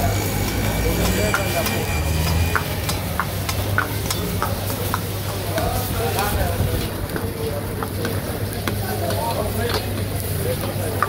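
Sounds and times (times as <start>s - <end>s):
flames rumbling: 0.0s - 11.0s.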